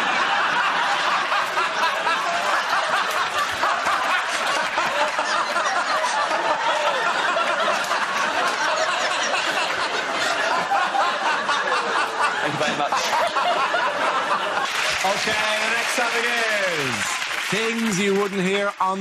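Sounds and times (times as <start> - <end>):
studio audience laughing: 0.0 - 18.7.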